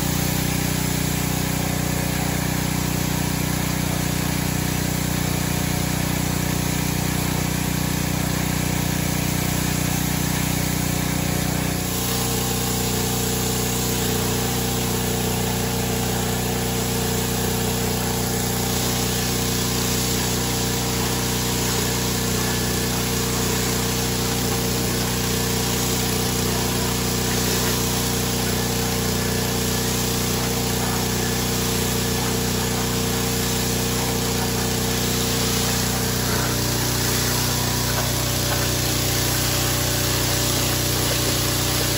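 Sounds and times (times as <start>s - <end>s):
pressure washer motor hum: 0.0s - 41.9s
water jets hissing: 8.1s - 41.9s.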